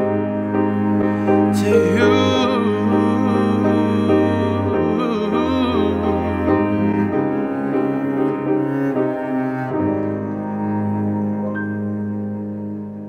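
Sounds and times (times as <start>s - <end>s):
piano and string chords: 0.0s - 13.0s.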